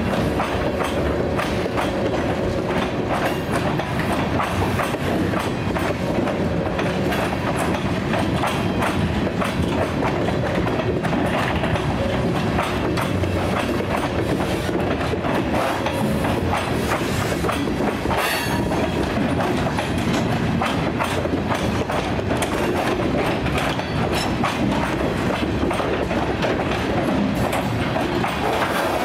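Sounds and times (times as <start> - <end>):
freight train rumble: 0.0 - 29.0
train wheels clacking over rail joints: 0.0 - 29.0.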